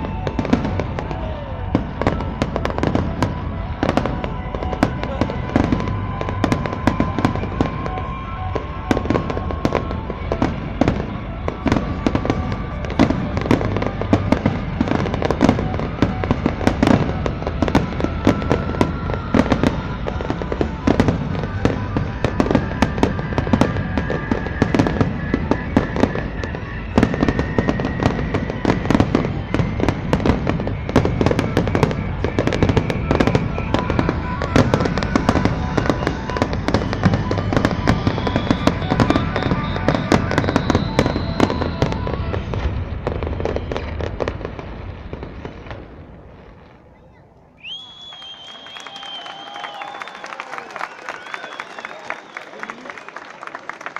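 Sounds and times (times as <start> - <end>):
music: 0.0 - 45.3
fireworks bursting and crackling: 0.0 - 53.9.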